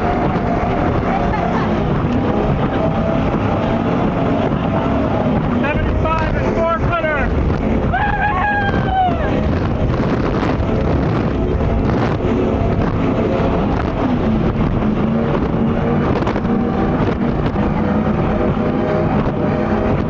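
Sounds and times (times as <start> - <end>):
powerboat engines droning: 0.0 - 20.0
rushing water: 0.0 - 20.0
rushing wind: 0.0 - 20.0.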